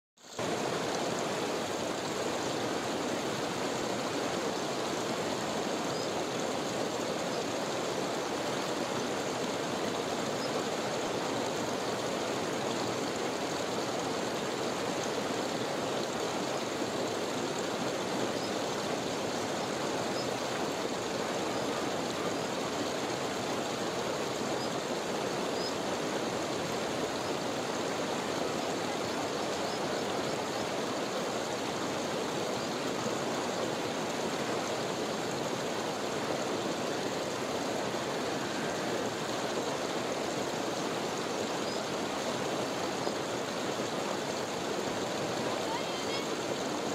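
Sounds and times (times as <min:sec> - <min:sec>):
water rushing over rocks: 0:00.2 - 0:46.9.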